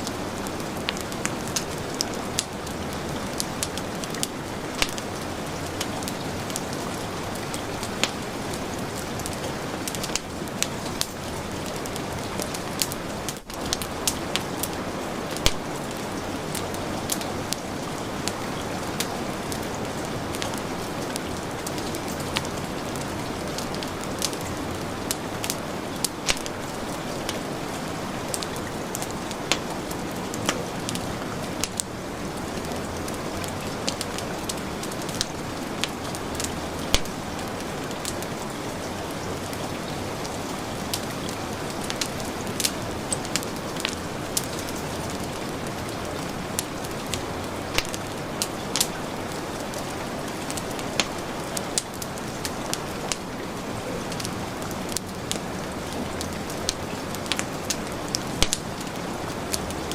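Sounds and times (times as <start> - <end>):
heavy rain hiss: 0.0 - 59.9
wood fire crackling and popping: 0.0 - 59.9.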